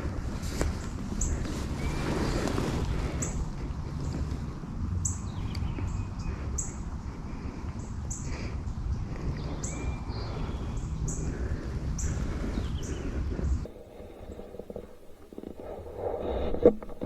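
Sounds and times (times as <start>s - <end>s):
wind rumble on microphone: 0.0s - 17.0s
small birds chirping: 0.6s - 15.8s.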